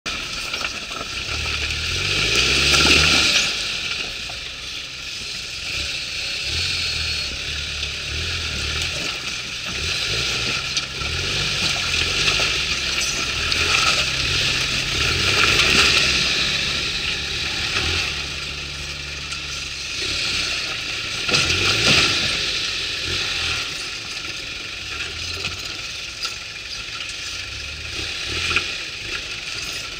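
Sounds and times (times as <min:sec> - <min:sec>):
truck engine at low revs: 0:00.0 - 0:29.9.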